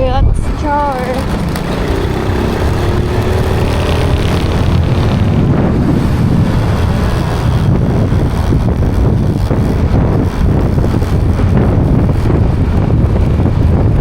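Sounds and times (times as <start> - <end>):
wind rushing over microphone: 0.0 - 14.0
vehicle engine running: 0.3 - 14.0.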